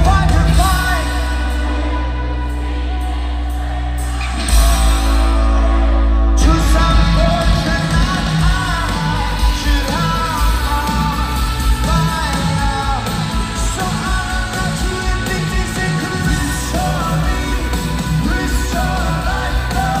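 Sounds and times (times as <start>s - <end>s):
heavy bass: 0.0s - 20.0s
lead vocal singing: 0.0s - 20.0s
live rock band playing: 0.0s - 20.0s.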